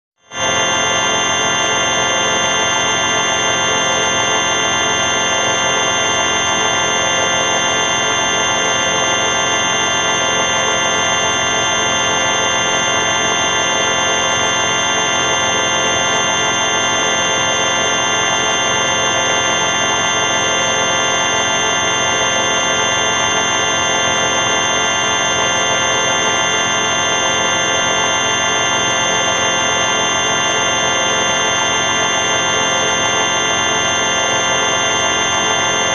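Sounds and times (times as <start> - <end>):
harsh electronic buzzing drone: 0.2 - 35.9.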